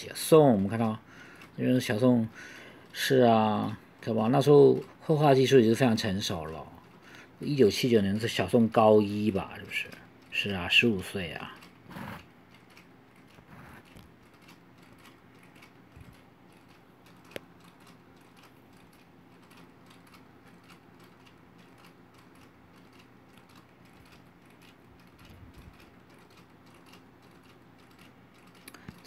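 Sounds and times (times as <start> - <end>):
faint irregular ticking: 0.0 - 29.0.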